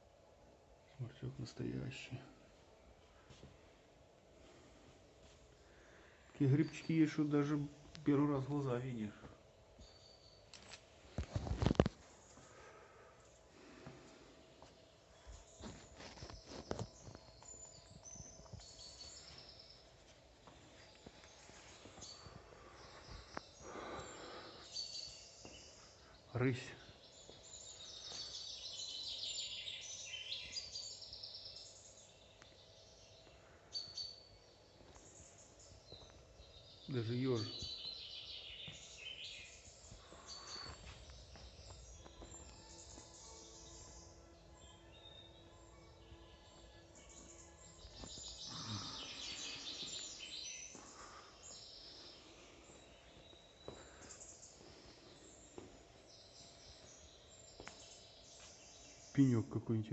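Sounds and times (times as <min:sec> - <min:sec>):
songbirds singing and twittering: 0:03.2 - 0:59.9.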